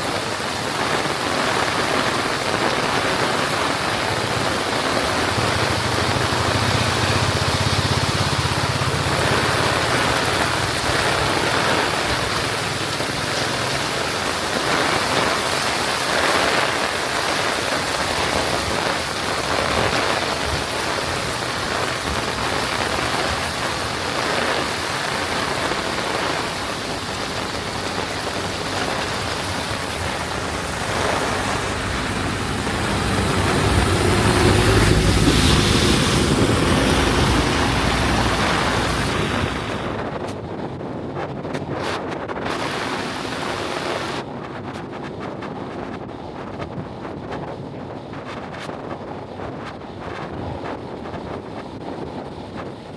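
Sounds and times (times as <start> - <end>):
heavy rain pouring: 0.0 - 44.3.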